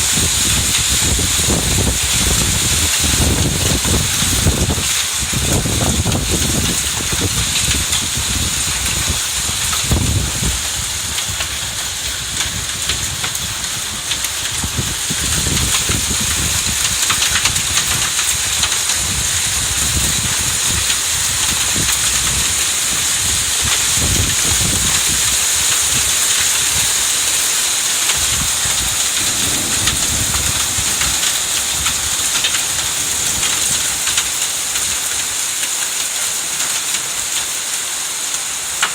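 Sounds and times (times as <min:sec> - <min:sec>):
low thunder rumbles: 0:00.0 - 0:35.8
heavy rain hissing: 0:00.0 - 0:38.9.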